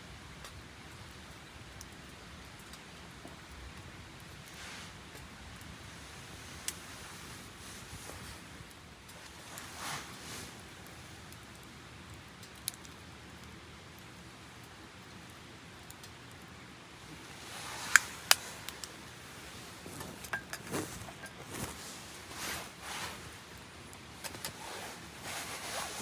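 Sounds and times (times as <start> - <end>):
faint fire hiss: 0.0 - 26.0
campfire popping and crackling: 0.1 - 26.0.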